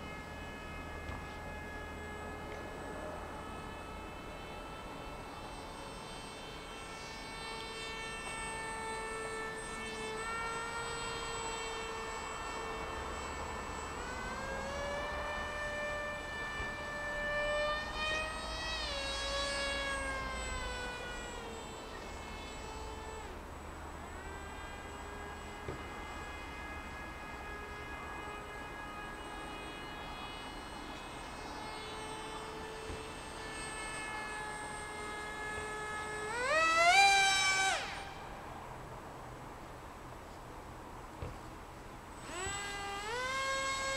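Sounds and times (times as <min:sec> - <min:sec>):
electric motor and propeller whining: 0:00.0 - 0:43.9.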